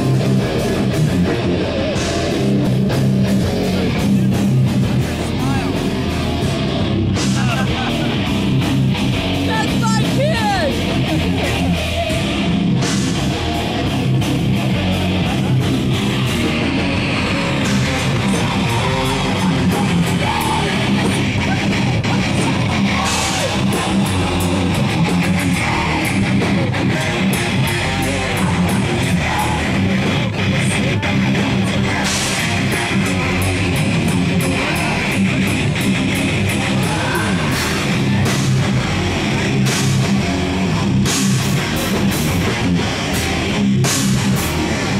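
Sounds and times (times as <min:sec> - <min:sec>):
heavy metal band playing live: 0:00.0 - 0:44.9.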